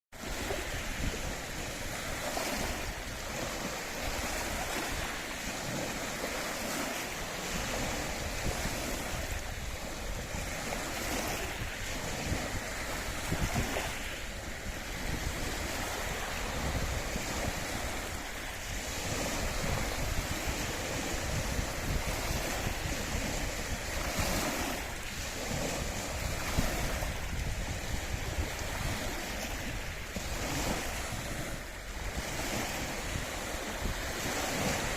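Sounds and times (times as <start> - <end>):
waves washing and lapping: 0.2 - 34.9
wind gusting over microphone: 0.2 - 34.9.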